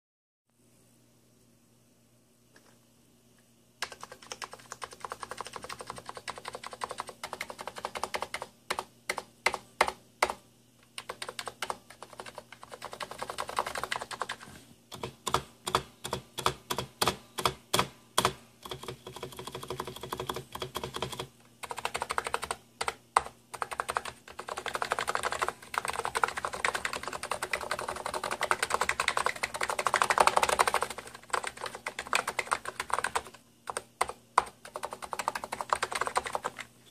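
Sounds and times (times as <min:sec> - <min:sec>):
keyboard typing: 0:03.8 - 0:36.7.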